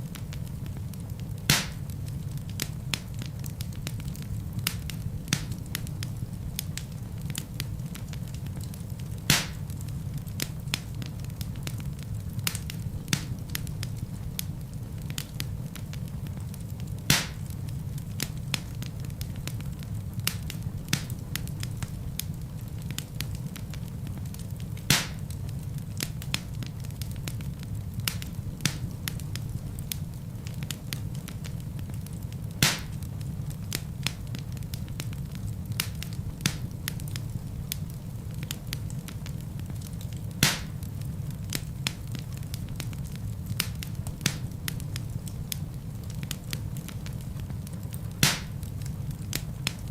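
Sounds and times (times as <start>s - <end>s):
fire burning low rumble: 0.0s - 49.9s
small fire crackles: 0.0s - 49.9s.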